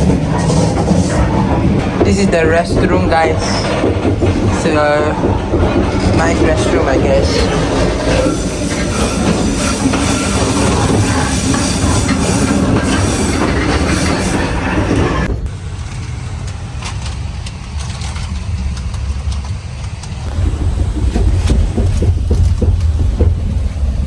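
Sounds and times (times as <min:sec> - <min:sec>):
train wheels rattling and rumbling: 0:00.0 - 0:24.0.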